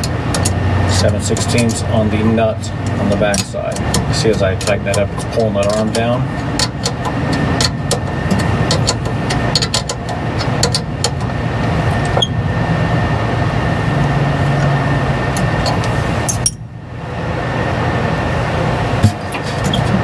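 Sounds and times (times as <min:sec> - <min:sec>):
mechanical background hum: 0:00.0 - 0:20.0.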